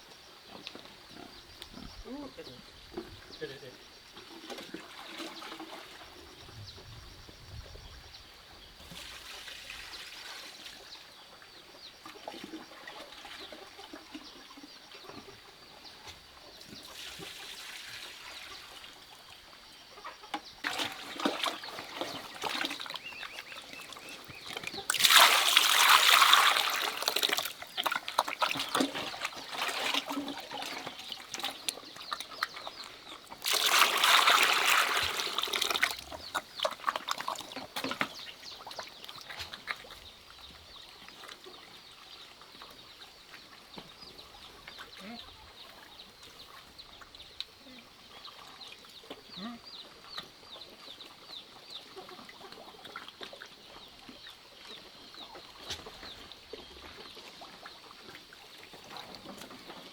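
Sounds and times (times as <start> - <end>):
water splashing and trickling: 1.8 - 59.9.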